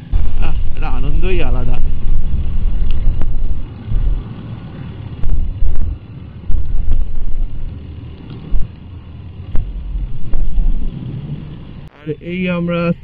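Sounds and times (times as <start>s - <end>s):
wind buffeting microphone: 0.0s - 11.9s
motorcycle engine rumble: 0.0s - 13.0s.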